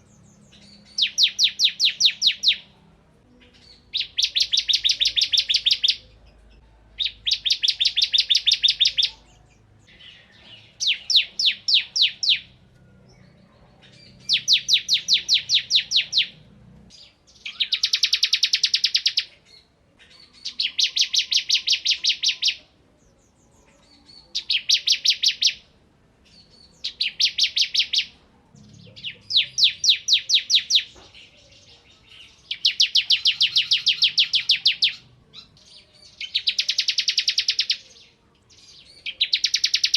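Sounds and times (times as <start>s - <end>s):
bird singing rapid trill: 0.0s - 39.9s.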